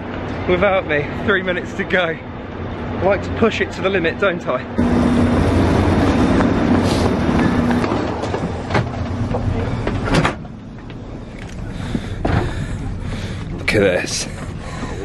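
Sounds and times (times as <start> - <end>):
train rumble and hum: 0.0 - 15.0.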